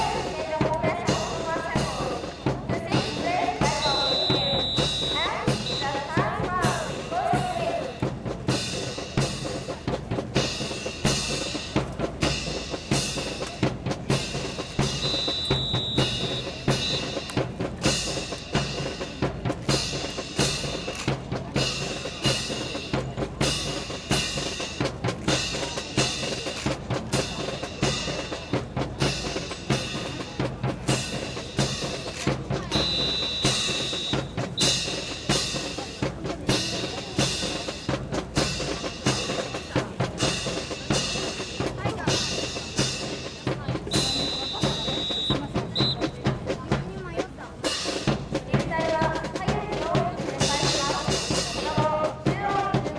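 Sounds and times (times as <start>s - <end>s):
drum-heavy music: 0.0s - 52.9s.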